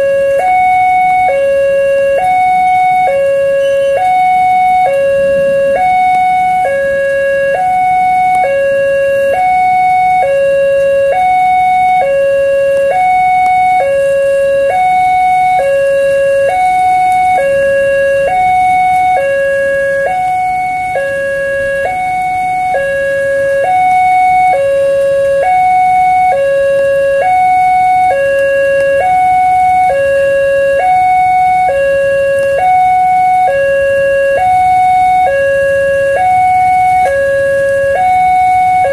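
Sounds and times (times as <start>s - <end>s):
two-tone level crossing alarm: 0.0s - 38.9s.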